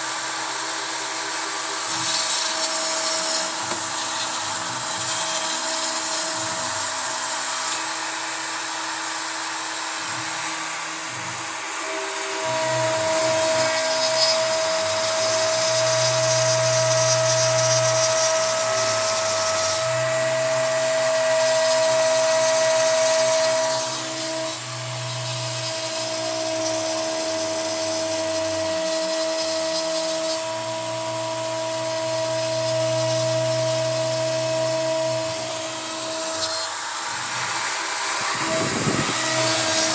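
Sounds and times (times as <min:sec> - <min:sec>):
end mill cutting wood: 0:00.0 - 0:39.9
router spindle whining: 0:00.0 - 0:39.9
motors humming: 0:01.6 - 0:26.1, 0:32.0 - 0:39.9.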